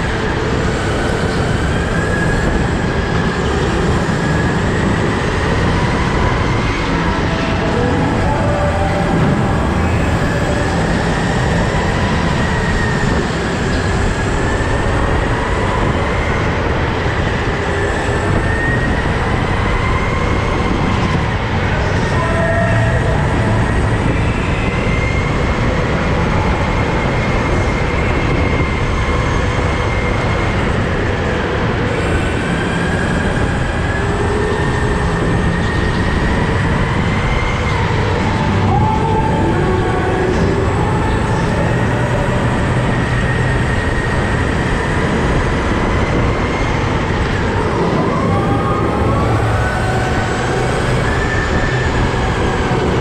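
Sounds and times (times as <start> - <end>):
go-kart engines whining: 0.0 - 53.0
steady loud rumble: 0.0 - 53.0.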